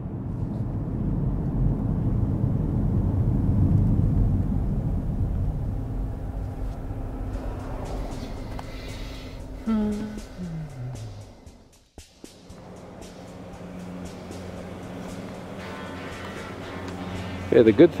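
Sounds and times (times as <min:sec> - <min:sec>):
car cabin road rumble: 0:00.0 - 0:11.7, 0:12.4 - 0:18.0.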